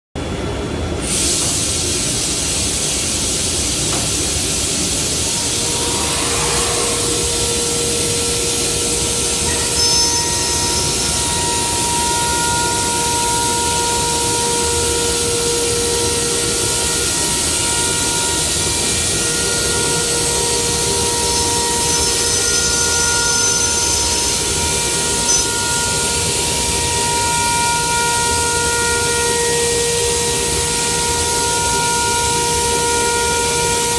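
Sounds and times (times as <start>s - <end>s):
machine rushing hiss: 0.9s - 33.9s.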